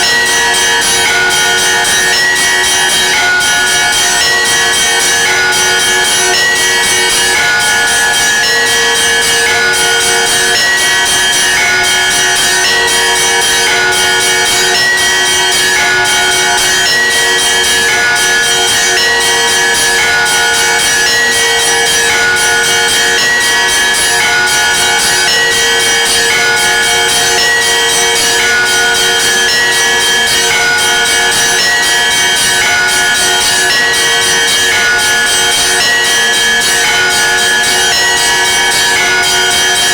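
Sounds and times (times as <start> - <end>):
small church bells ringing: 0.0 - 39.9.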